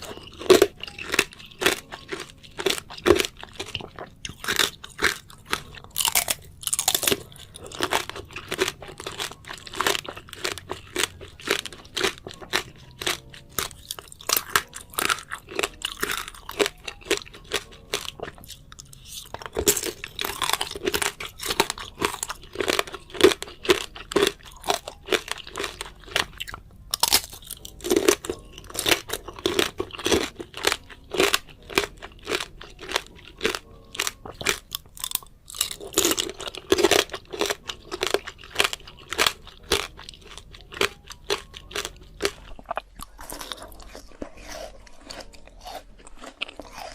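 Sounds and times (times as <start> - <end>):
crunchy fruit chewing: 0.0 - 46.9.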